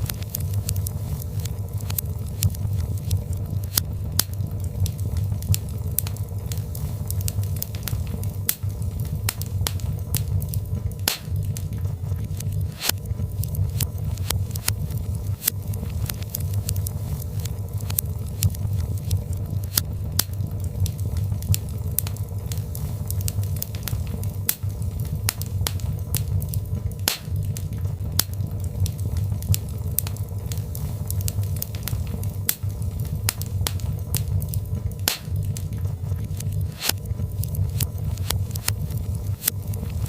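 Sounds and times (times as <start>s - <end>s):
logs crackling and popping: 0.0s - 40.0s
low rumble of flames: 0.0s - 40.0s.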